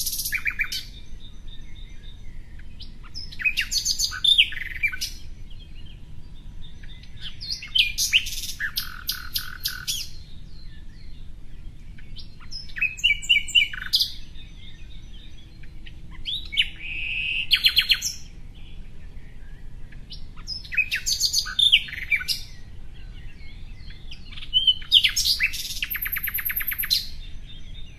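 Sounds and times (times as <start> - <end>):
songbird singing trills: 0.0 - 27.9.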